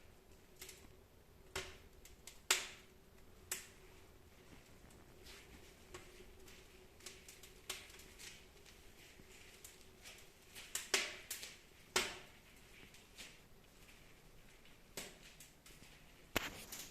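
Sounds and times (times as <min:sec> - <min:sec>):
fire crackling and popping: 0:00.0 - 0:16.9.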